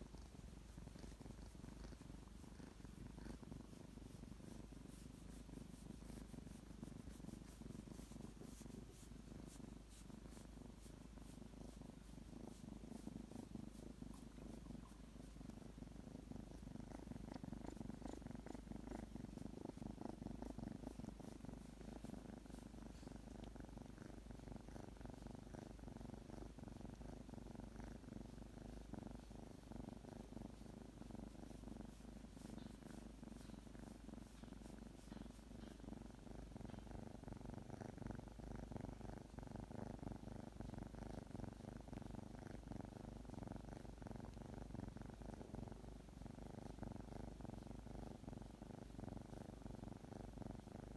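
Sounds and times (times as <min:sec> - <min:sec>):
kitten purring: 0:00.0 - 0:50.9.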